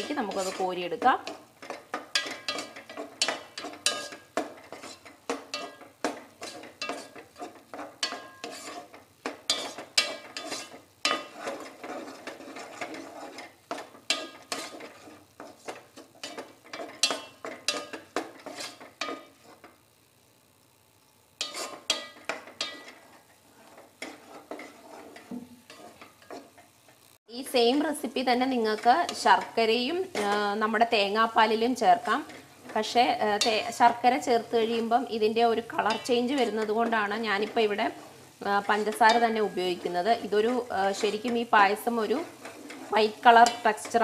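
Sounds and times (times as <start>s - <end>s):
spoon scraping a pot: 0.0s - 19.8s, 21.4s - 26.7s, 32.0s - 34.9s, 35.6s - 44.0s.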